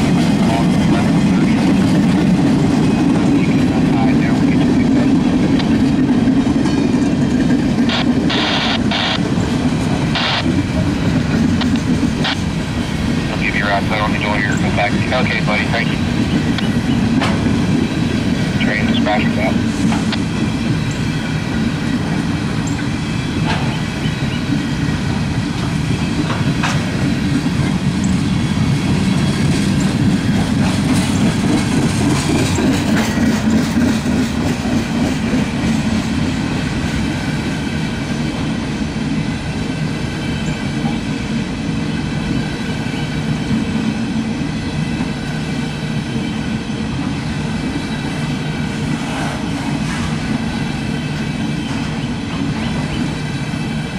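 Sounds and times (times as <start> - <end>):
steel wheels rumbling on rails: 0.0 - 53.9.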